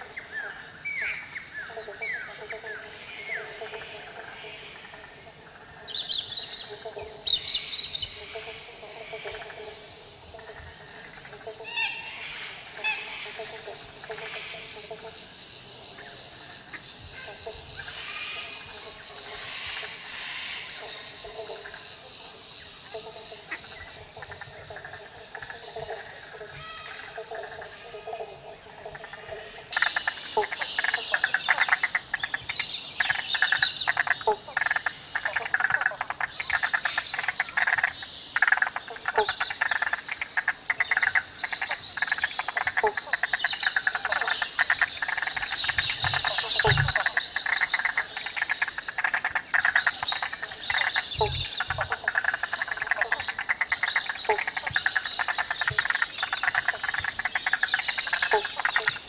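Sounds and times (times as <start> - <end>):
frogs chorus trilling: 0.0 - 59.0.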